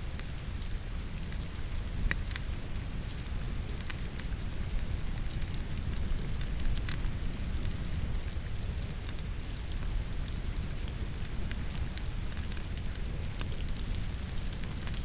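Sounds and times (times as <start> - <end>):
falling rain: 0.0 - 15.0
fire crackling and popping: 0.0 - 15.0
wood logs burning in fireplace: 0.0 - 15.0.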